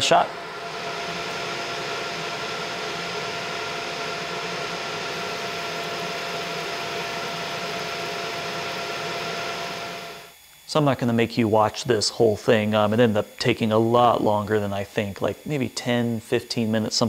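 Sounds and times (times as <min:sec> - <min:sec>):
laser engraver whirring hum: 0:00.0 - 0:17.0.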